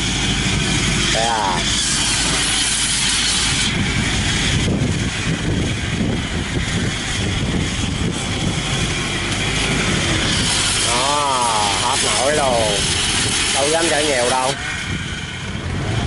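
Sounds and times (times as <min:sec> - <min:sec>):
small engine pulsing under load: 0:00.0 - 0:16.0.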